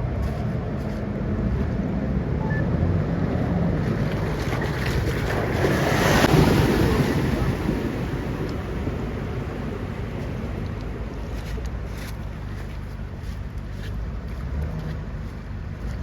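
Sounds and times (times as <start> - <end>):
vehicle engine running under load: 0.0 - 16.0
water rushing and splashing: 0.0 - 16.0.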